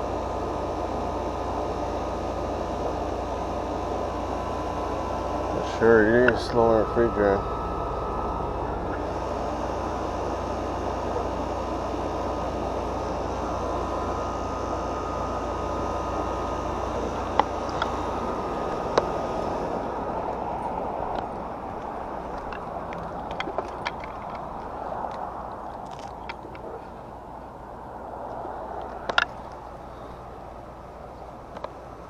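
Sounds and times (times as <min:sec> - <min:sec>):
air conditioner unit humming: 0:00.0 - 0:32.0.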